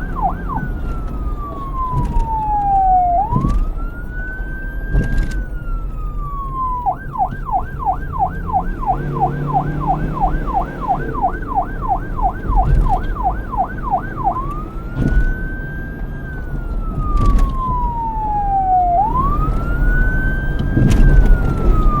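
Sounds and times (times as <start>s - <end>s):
police siren wailing and yelping: 0.0s - 22.0s.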